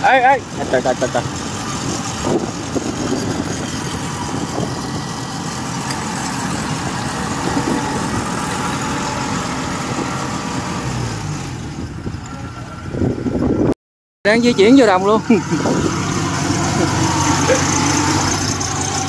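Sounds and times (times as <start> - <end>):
combine harvester diesel engine: 0.0 - 13.7, 14.3 - 19.0.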